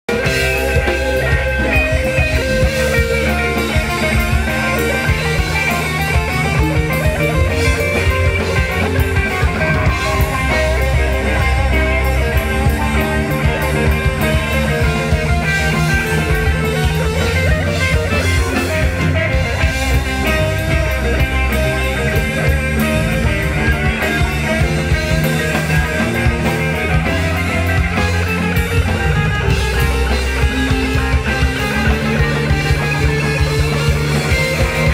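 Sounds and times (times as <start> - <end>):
electric guitar: 0.0 - 34.9
live rock band playing: 0.0 - 34.9.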